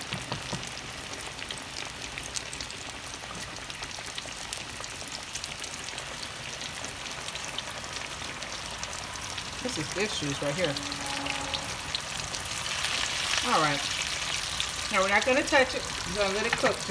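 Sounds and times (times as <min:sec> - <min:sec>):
chicken frying in oil: 0:00.0 - 0:16.9.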